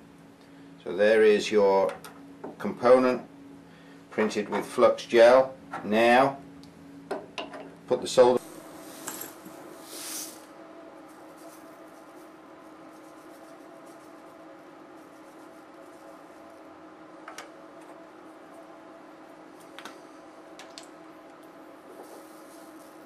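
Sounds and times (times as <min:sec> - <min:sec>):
faint machine hum: 0:00.0 - 0:23.0.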